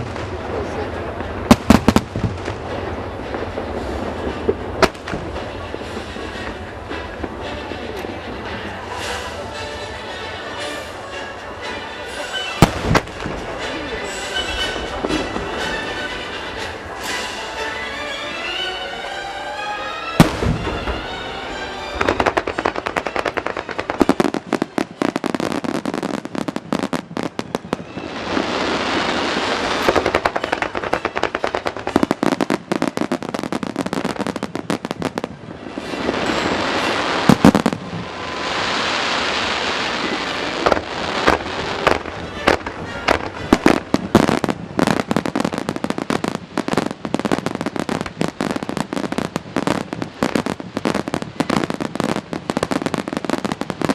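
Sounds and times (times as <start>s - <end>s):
fireworks crackling: 0.0s - 53.9s
fireworks hissing sizzle: 0.0s - 53.9s.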